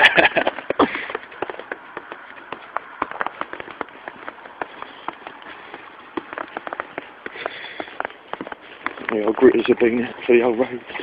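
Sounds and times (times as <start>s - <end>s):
footsteps crunching through snow: 0.2s - 11.0s.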